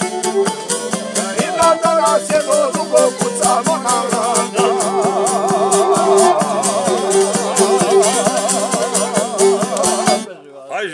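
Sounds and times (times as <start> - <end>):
strummed plucked strings: 0.0 - 10.3
man singing with vibrato: 1.2 - 10.2.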